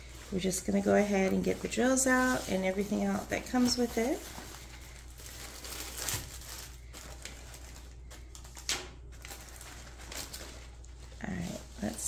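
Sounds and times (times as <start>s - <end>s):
canvas rustling: 0.0s - 12.0s
plastic bag crinkle: 0.0s - 12.0s.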